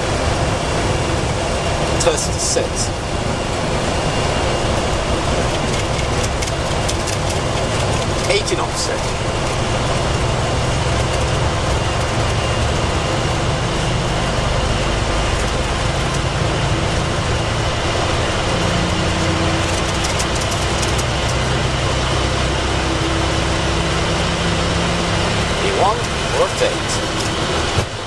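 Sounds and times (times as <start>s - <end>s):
jet engines at takeoff thrust: 0.0s - 28.0s
low hum: 0.0s - 28.0s.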